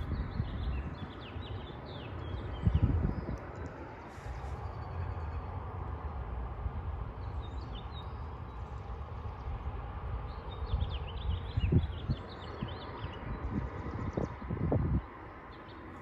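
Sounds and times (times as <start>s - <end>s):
small birds chirping: 0.0s - 5.7s, 7.1s - 16.0s
wind buffeting microphone: 0.0s - 16.0s.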